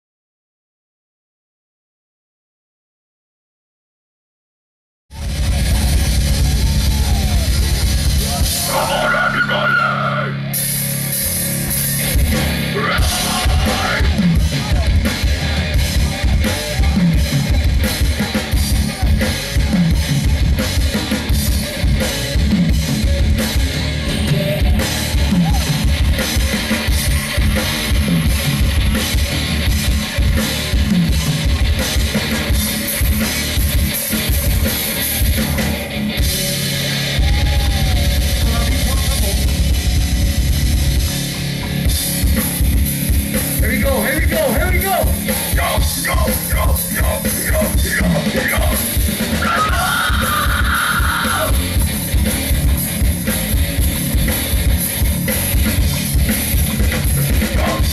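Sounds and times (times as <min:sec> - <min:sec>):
rapid dense drumming: 0:05.1 - 0:09.7, 0:10.4 - 0:57.9
metal band playing live: 0:05.1 - 0:57.9.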